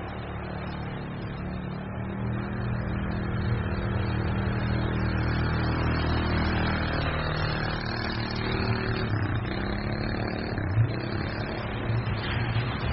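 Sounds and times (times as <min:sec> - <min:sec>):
small engine vehicle driving past: 0:00.0 - 0:12.9.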